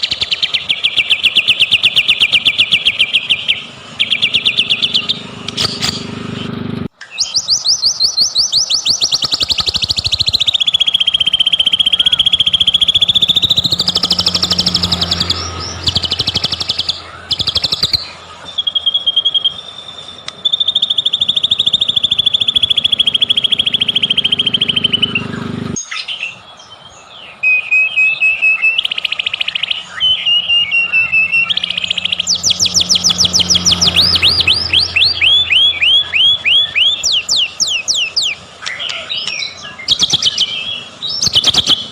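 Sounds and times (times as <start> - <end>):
bird singing rapid trills: 0.0 - 6.4, 7.0 - 41.9.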